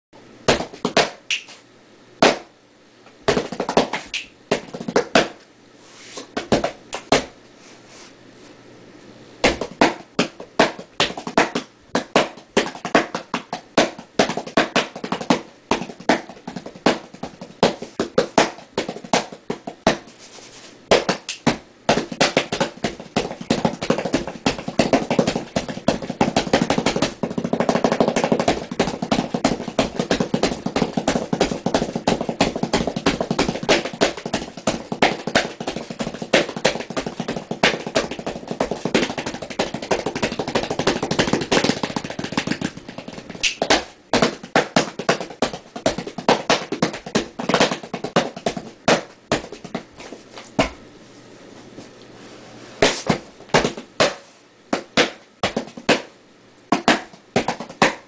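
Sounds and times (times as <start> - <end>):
hands drumming on cardboard box: 3.3 - 5.4, 6.3 - 7.3, 9.4 - 20.1, 20.9 - 50.8, 52.8 - 56.1, 56.7 - 58.0.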